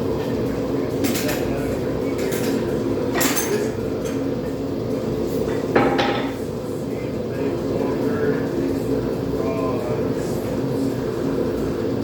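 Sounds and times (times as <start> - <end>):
forge burner hum: 0.0 - 12.0.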